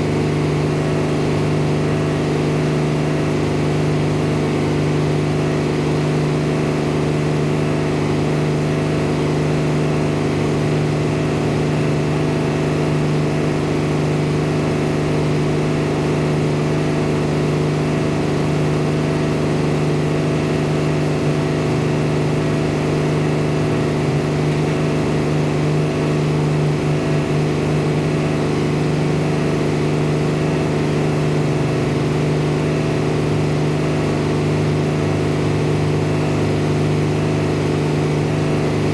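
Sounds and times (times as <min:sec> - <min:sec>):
machinery engine humming steadily: 0:00.0 - 0:38.9.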